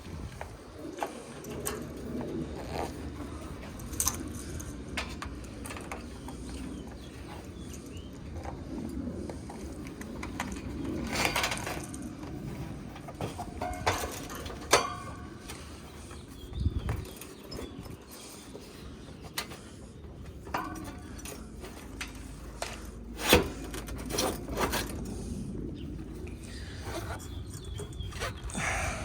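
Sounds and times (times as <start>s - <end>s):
handling clicks and rustles: 0.0s - 28.6s.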